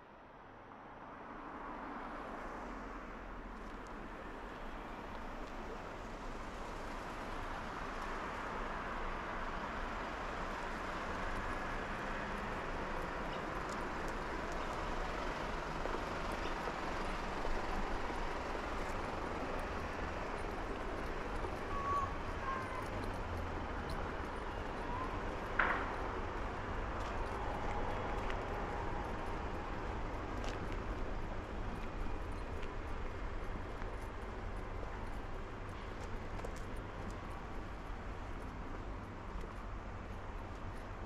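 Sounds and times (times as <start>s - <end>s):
distant road traffic hum: 0.1s - 41.0s.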